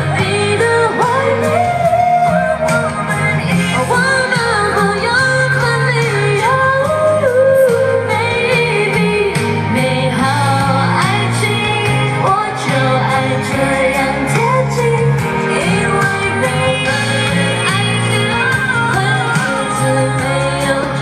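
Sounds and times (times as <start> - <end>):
amplified backing music: 0.0 - 21.0
woman singing pop song: 0.0 - 21.0.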